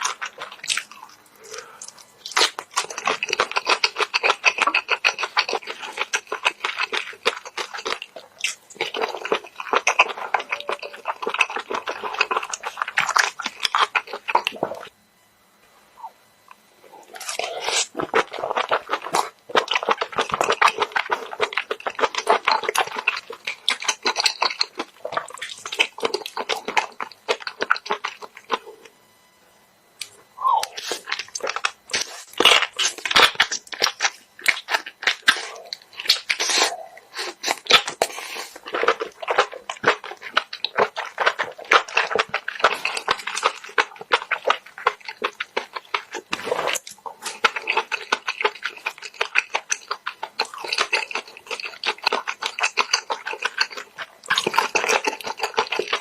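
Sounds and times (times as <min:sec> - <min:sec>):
chewing and crunching: 0:00.0 - 0:15.0, 0:16.0 - 0:29.0, 0:29.8 - 0:56.0.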